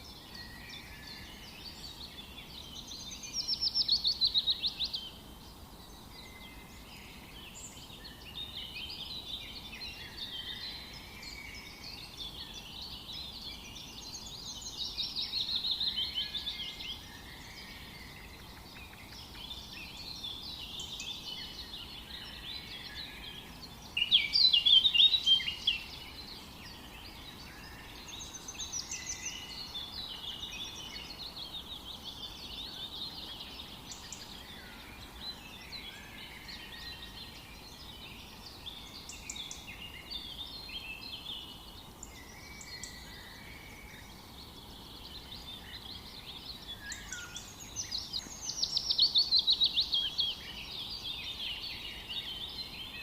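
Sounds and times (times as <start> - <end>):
faint background hiss: 0.0 - 53.0
songbirds chirping and singing: 0.0 - 53.0.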